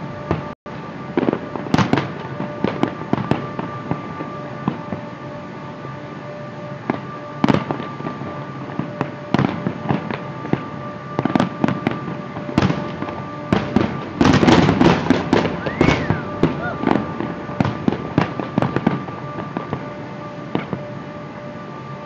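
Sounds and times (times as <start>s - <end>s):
fireworks bangs and crackles: 0.0s - 5.7s, 6.3s - 22.0s.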